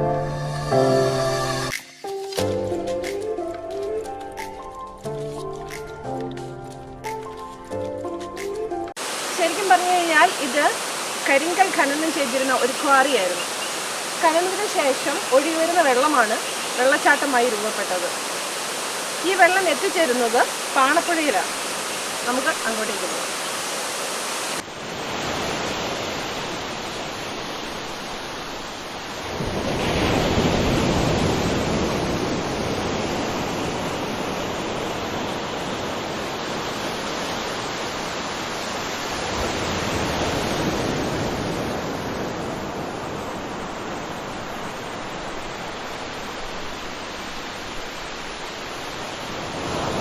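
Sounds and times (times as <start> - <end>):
waterfall rushing: 9.0 - 50.0.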